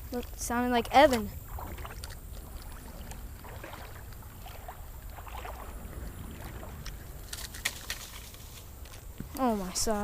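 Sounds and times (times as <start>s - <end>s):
low microphone rumble: 0.0s - 10.0s
river water sloshing and splashing: 0.0s - 10.0s.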